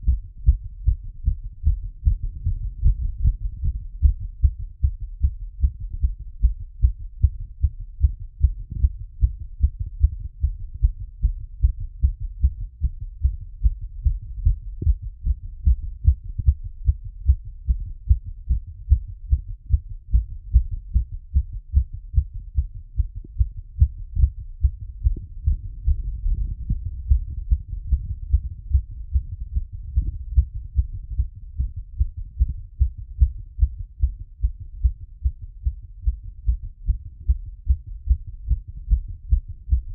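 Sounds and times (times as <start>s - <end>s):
heartbeat through stethoscope: 0.0s - 39.9s.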